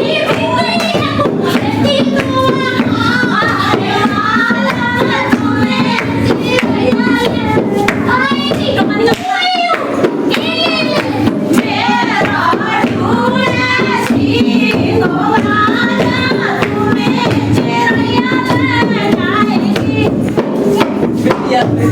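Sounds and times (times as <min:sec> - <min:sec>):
hand claps keeping time: 0:00.0 - 0:21.4.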